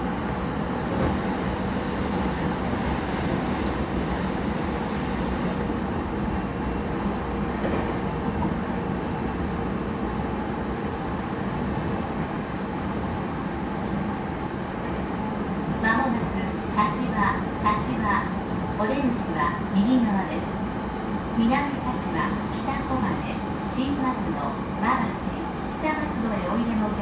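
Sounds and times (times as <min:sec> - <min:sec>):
faint train hum: 0:00.0 - 0:27.0.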